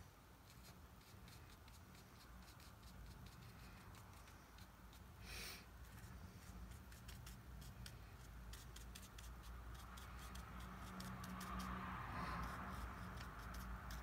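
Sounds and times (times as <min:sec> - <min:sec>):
brush strokes on paper: 0:00.4 - 0:14.0.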